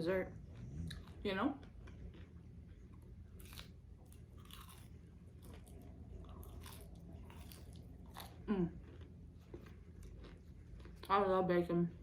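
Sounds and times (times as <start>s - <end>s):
bacon crunching while chewed: 0.6s - 11.2s.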